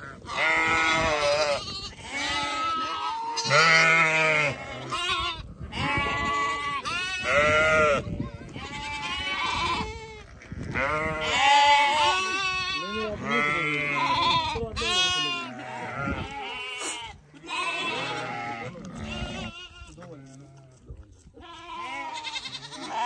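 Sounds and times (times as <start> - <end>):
lambs and ewe bleating: 0.0 - 20.8, 21.4 - 23.0.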